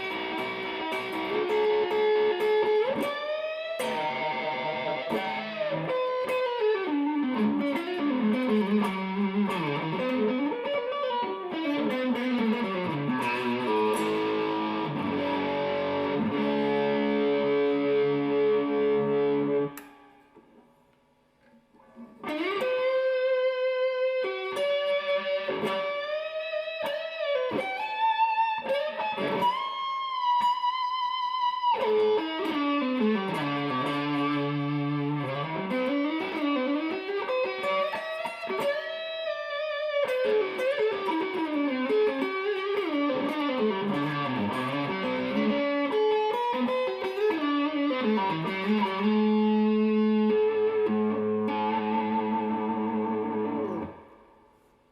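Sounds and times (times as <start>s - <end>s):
electric guitar solo: 0.0s - 20.4s, 21.8s - 54.6s.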